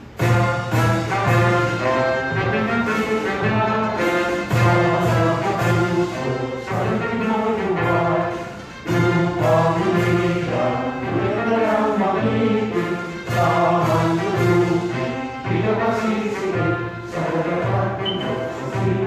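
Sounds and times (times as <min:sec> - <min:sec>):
orchestral music: 0:00.0 - 0:19.0
choir singing: 0:00.8 - 0:19.0.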